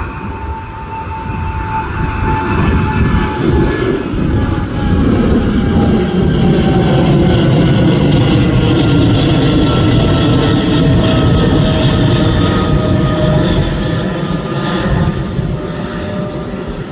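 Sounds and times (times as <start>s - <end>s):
jet engines rumbling and whining: 0.0s - 16.9s.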